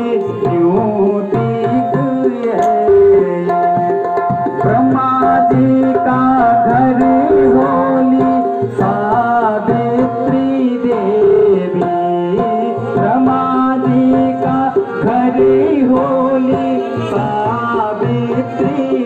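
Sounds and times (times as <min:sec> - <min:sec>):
harmonium: 0:00.0 - 0:19.0
tabla rhythm: 0:00.0 - 0:19.0.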